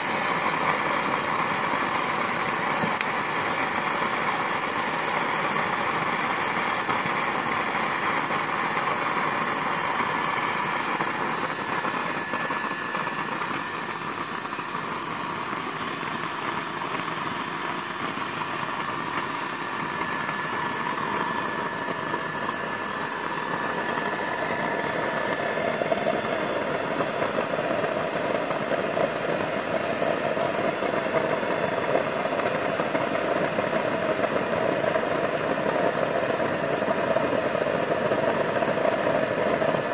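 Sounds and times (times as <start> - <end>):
stove burner flame roar: 0.0 - 39.9.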